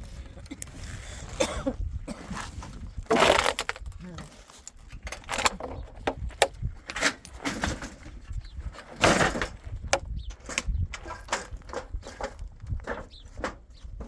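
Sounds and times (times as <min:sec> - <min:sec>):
wooden scrape: 0:02.1 - 0:14.0
wooden knocks and clatter: 0:02.4 - 0:14.0.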